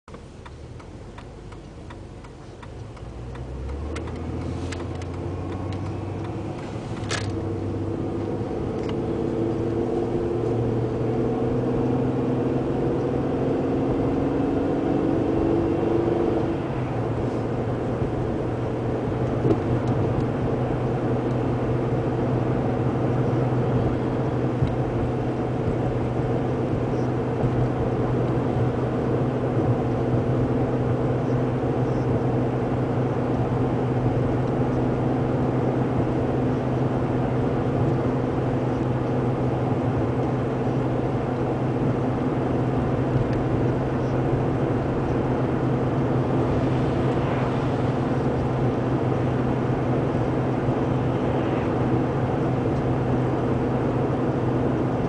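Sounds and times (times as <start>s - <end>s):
car engine under heavy load: 0.0s - 55.0s
road noise: 0.0s - 55.0s.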